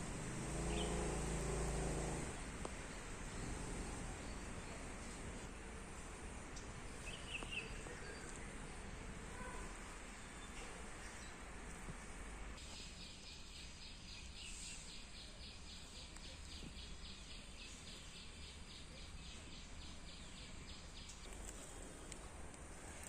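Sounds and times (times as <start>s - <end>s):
faint outdoor background noise: 0.0s - 23.0s.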